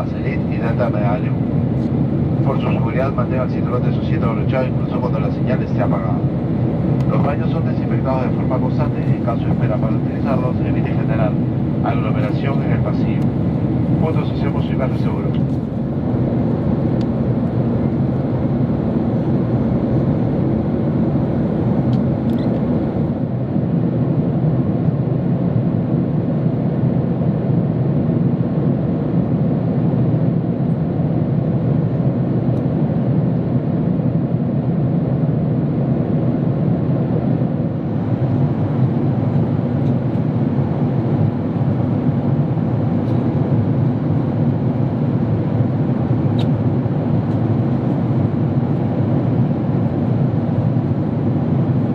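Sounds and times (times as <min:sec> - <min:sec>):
airplane cabin roar: 0:00.0 - 0:51.9.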